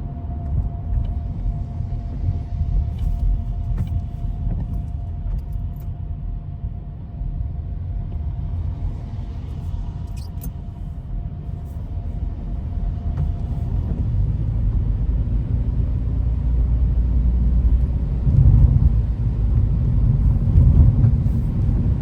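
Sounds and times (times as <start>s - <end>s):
car tyres and engine rumble: 0.0s - 22.0s.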